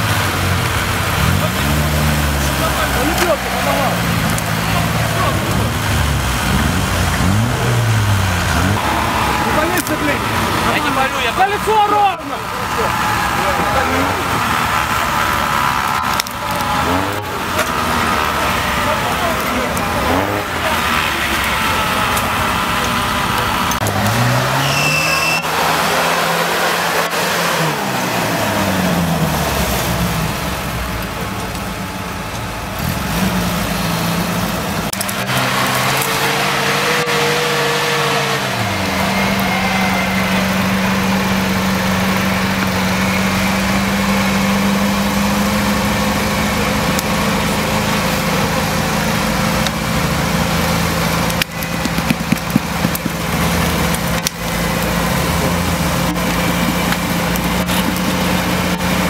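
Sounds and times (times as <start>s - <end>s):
jeep engine labouring: 0.0s - 59.0s.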